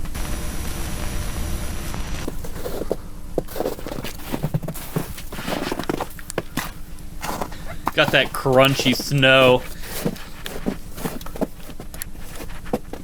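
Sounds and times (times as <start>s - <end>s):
tape static hiss with hum: 0.0s - 13.0s
footsteps crunching through snow: 1.9s - 13.0s.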